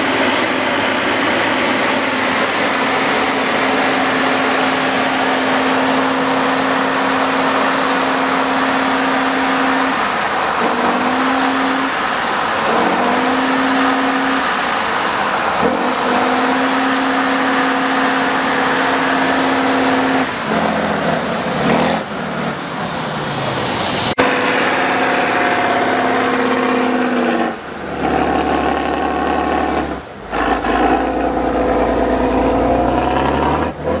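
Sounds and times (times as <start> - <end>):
diesel engines running hard: 0.0 - 34.0.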